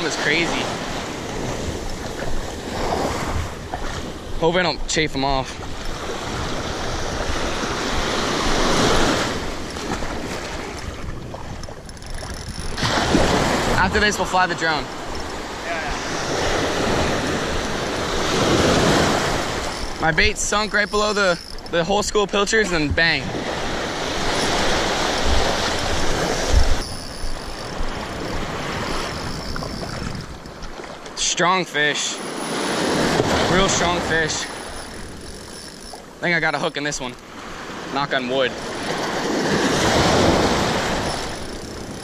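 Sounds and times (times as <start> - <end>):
small surf washing in shallows: 0.0 - 11.6, 12.6 - 42.0
wind rumbling on microphone: 0.0 - 31.1, 38.5 - 42.0.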